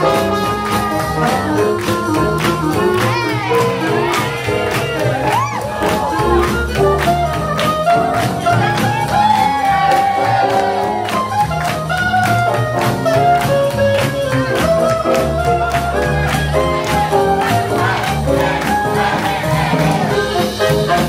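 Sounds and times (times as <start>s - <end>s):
swing jazz with horns: 0.0s - 21.0s.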